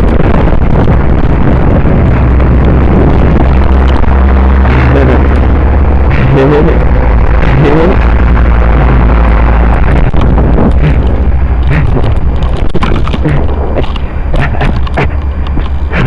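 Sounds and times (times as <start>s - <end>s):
blizzard wind buffeting microphone: 0.0s - 16.0s.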